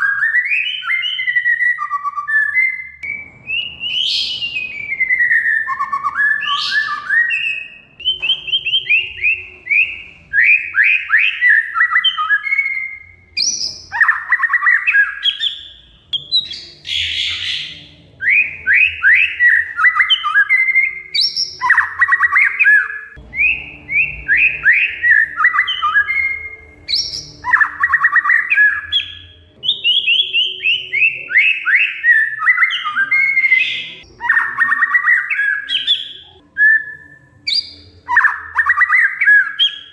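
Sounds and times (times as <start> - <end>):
bird singing chattering phrases: 0.0 - 36.4.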